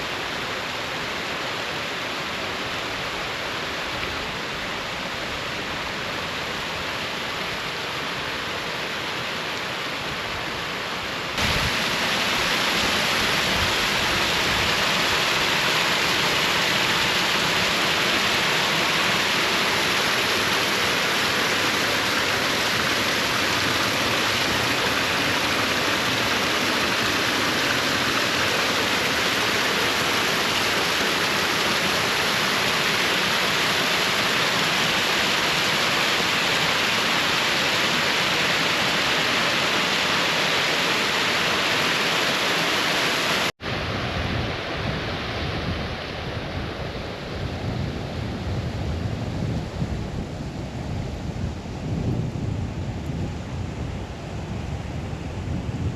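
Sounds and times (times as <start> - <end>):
stream rushing down a waterfall: 0.0 - 48.5.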